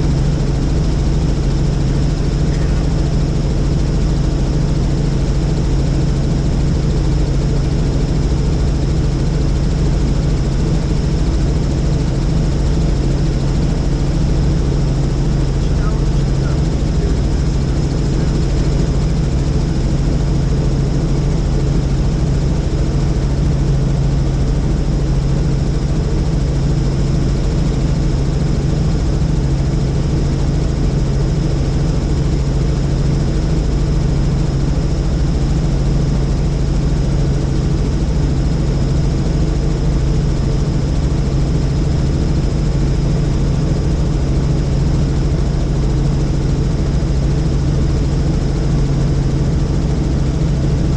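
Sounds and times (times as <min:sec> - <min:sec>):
helicopter engine and rotors drone: 0:00.0 - 0:50.9.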